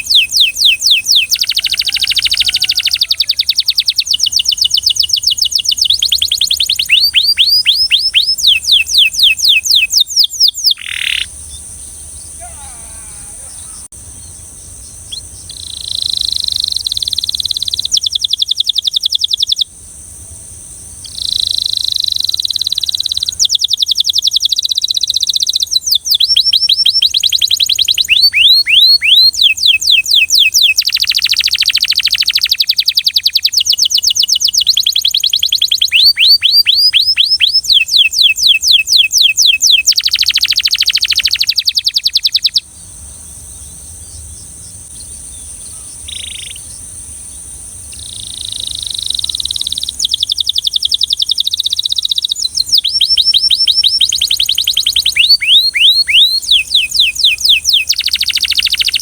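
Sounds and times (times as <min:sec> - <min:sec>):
canary singing trills: 0:00.0 - 0:19.7, 0:21.0 - 0:59.0.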